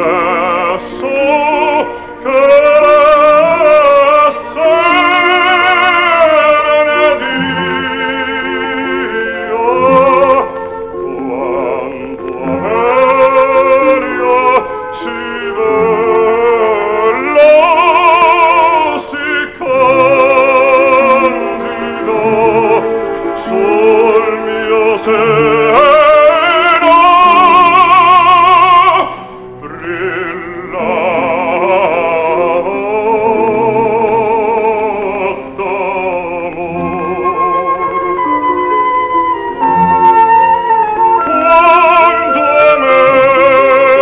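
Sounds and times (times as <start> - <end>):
operatic baritone singing: 0.0 - 44.0
orchestra playing: 0.0 - 44.0.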